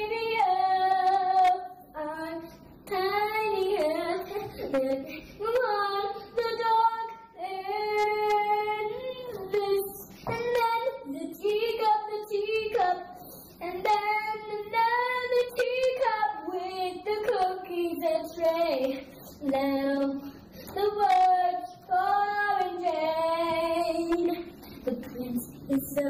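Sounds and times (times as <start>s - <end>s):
girl singing in high voice: 0.0s - 26.0s.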